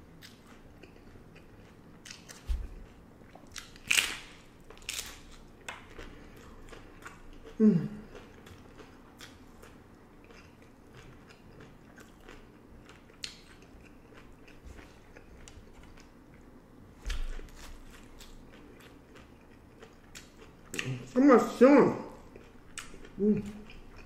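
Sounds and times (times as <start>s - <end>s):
chewing and crunching tacos: 0.0s - 24.0s.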